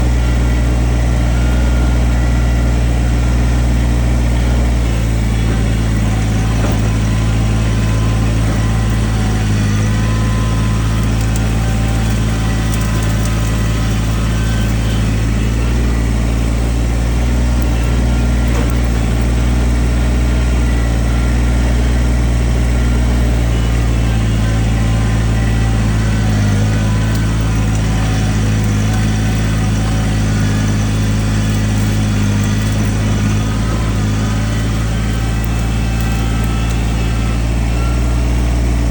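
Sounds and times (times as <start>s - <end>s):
heavy equipment engine running: 0.0s - 38.9s.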